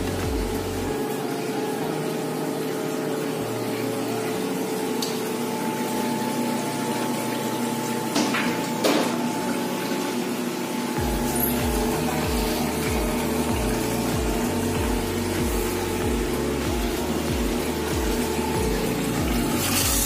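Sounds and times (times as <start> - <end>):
drain pump humming: 0.0 - 20.0
water flowing onto floor: 0.0 - 20.0.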